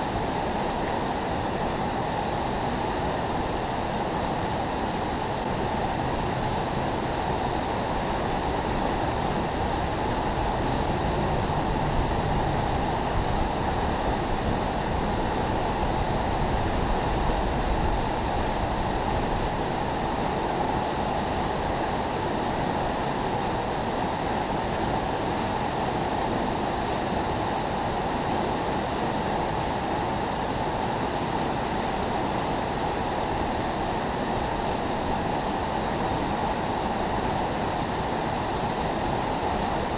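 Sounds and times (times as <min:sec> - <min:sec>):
river water rushing through spillway: 0:00.0 - 0:39.9.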